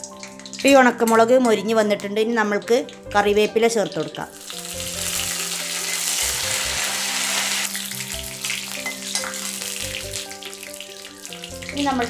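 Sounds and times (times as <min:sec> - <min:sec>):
leaves and chillies sizzling in oil: 0:00.0 - 0:12.0.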